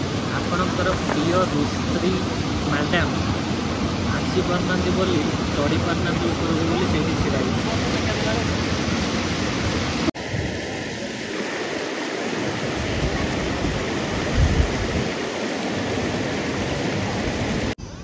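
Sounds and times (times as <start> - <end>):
water rushing over rock: 0.0 - 17.8.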